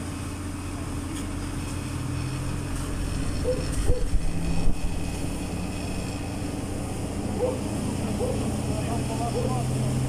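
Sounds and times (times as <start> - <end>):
fire engine engine humming: 0.0 - 10.0.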